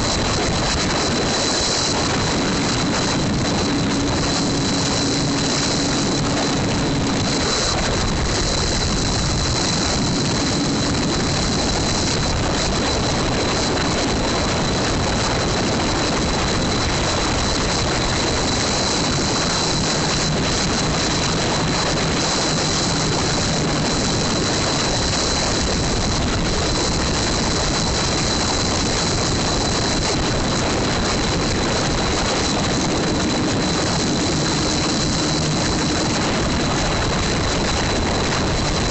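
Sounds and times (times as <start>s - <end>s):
wind rushing on microphone: 0.0s - 38.9s.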